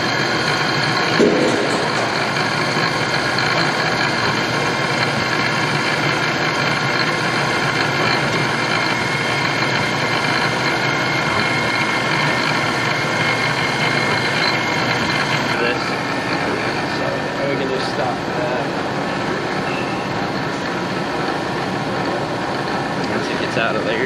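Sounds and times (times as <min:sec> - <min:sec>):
milling machine whirring: 0:00.0 - 0:24.0.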